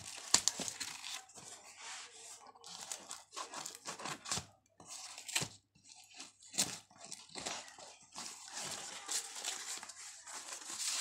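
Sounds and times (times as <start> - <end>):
cardboard and paper tearing: 0.0 - 11.0.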